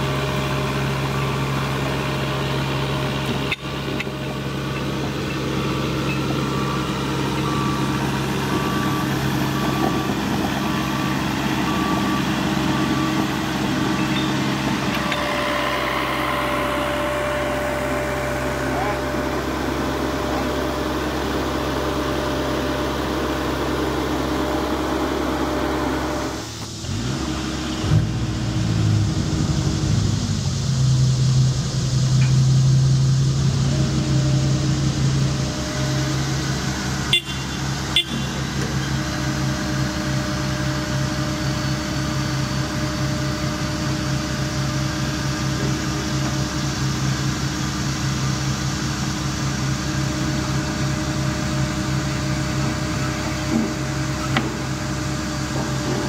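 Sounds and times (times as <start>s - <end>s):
excavator diesel engine: 0.0s - 56.0s
steady higher whine: 0.0s - 56.0s.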